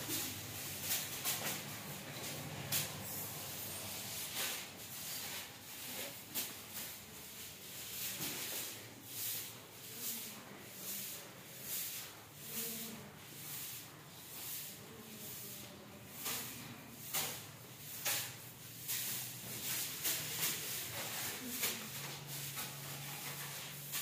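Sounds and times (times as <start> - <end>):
broom sweeping stone floor: 0.0 - 24.0.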